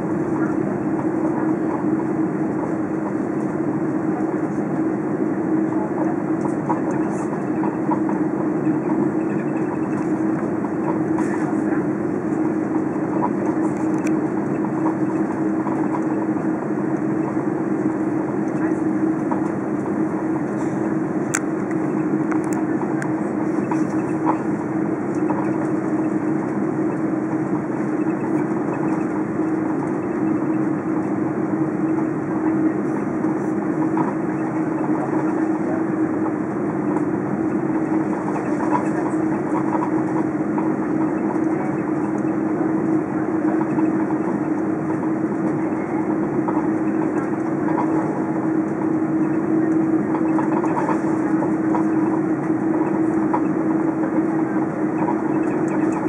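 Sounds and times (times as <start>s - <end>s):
aircraft cabin rushing noise: 0.0s - 56.0s
constant low engine hum: 0.0s - 56.0s.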